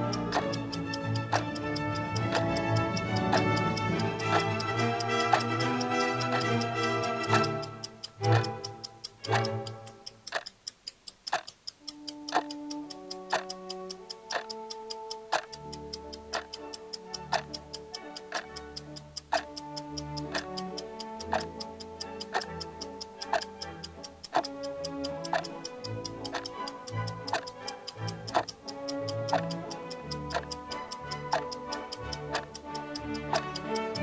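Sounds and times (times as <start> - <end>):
background music of held notes: 0.0 - 10.3, 11.8 - 34.0
clock ticking: 0.0 - 34.0.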